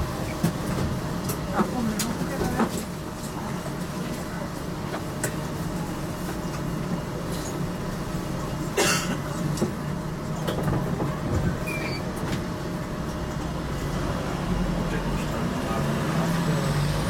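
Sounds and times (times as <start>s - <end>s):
tram rumble: 0.0s - 17.0s.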